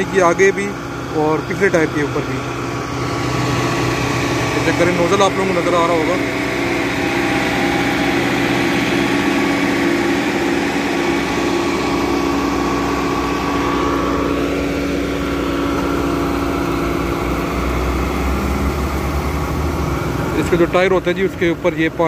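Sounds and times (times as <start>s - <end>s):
deep rumble: 0.0s - 22.0s
road roller engine running: 0.0s - 22.0s.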